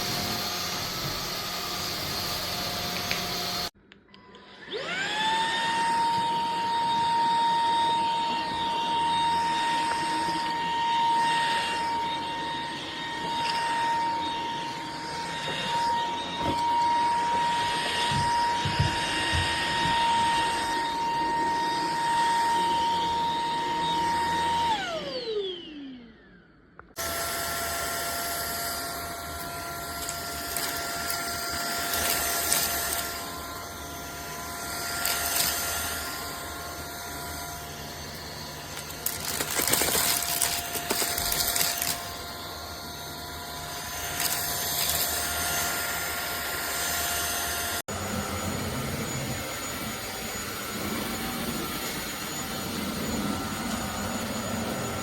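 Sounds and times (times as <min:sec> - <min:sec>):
lower vacuum motor whine: 0:00.0 - 0:55.0
vacuum cleaner motor whine: 0:00.0 - 0:55.0.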